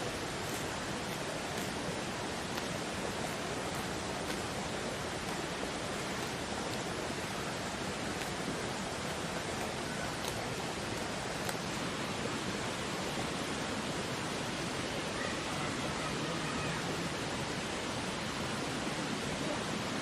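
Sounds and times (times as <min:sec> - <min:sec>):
steady rushing noise: 0:00.0 - 0:16.1.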